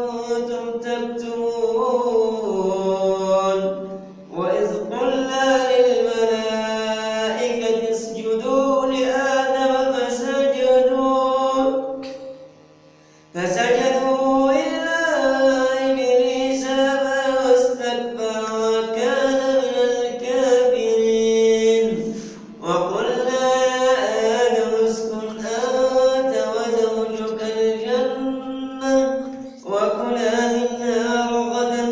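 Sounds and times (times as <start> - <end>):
man reciting melodically: 0.0 - 12.0, 13.3 - 31.9.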